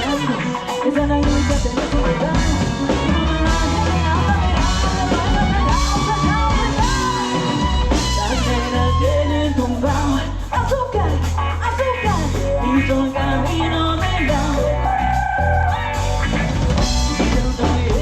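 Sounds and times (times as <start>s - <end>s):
live pop band playing: 0.0s - 18.0s.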